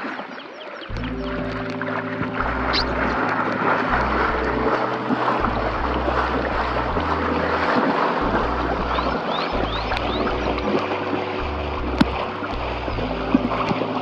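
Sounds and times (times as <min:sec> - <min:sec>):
river water rushing: 0:00.0 - 0:14.0
lofi background music: 0:00.9 - 0:14.0.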